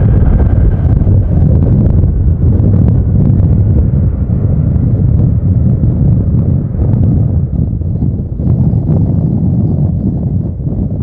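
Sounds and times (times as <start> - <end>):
jet engines rumbling: 0.0 - 11.0
wind buffeting microphone: 0.0 - 11.0.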